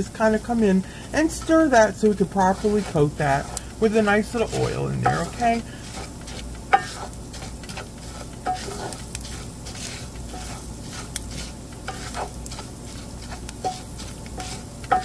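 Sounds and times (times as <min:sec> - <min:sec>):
oil sizzling: 0:00.0 - 0:15.0
spoon stirring rice in pan: 0:00.0 - 0:15.0.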